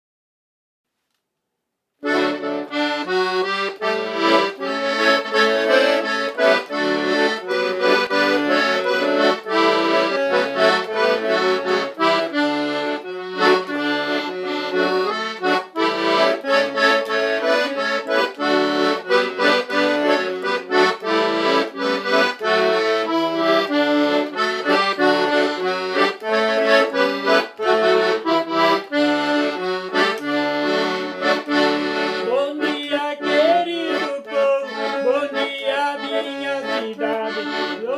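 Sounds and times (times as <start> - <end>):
fast instrumental melody: 2.0 - 37.9
repeated bass notes: 2.0 - 37.9.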